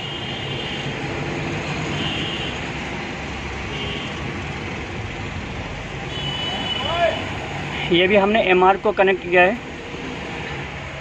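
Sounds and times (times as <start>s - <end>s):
vehicle engine rumble: 0.8s - 11.0s.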